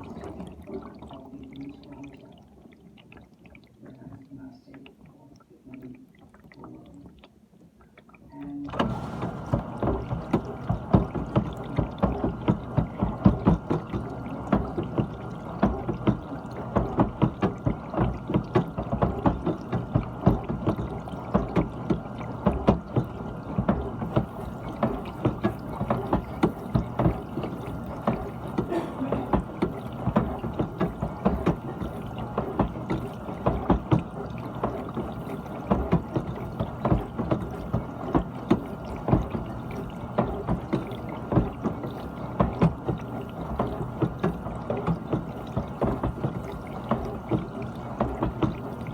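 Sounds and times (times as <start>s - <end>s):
pump hum: 0.0s - 48.9s
water splashing inside dishwasher: 0.0s - 48.9s.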